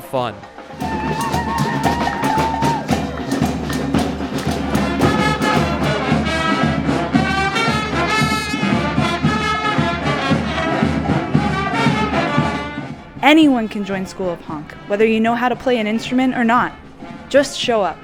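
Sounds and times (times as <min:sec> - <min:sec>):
brass band playing: 0:00.0 - 0:17.8.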